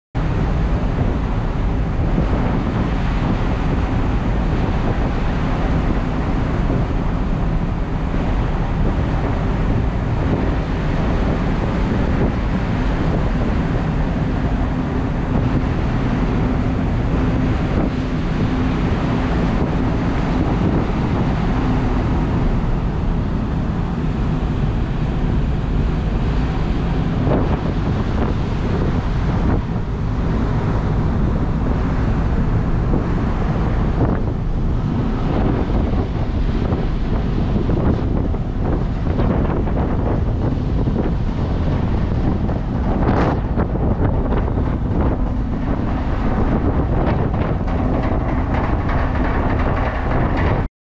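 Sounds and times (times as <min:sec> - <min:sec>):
even hum tones: 0:00.2 - 0:50.7
ship engine drone: 0:00.2 - 0:50.7
wind buffeting microphone: 0:00.2 - 0:50.7.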